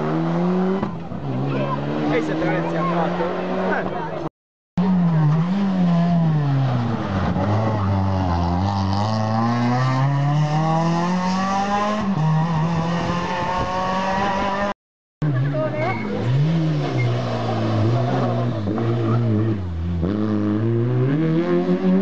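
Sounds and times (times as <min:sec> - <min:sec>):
rally car engine: 0:00.0 - 0:22.0.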